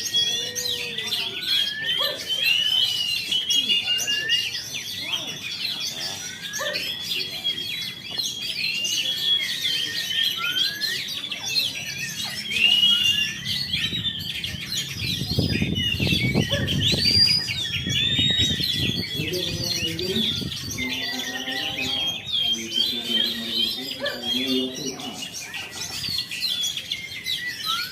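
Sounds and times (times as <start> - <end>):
songbird singing: 0.0 - 27.9
voices talking: 0.0 - 27.9.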